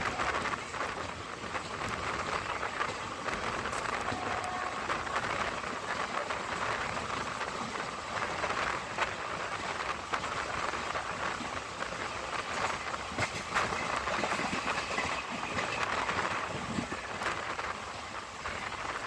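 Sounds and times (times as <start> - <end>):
train rolling at speed: 0.0 - 19.0.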